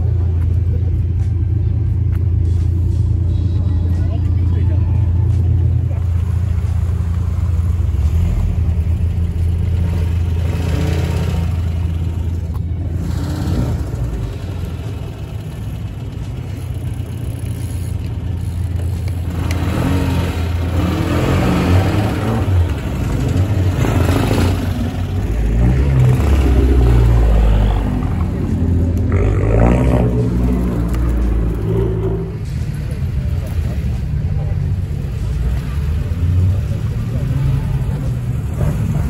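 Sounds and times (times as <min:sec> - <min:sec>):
car engine rumbling: 0:00.0 - 0:39.0.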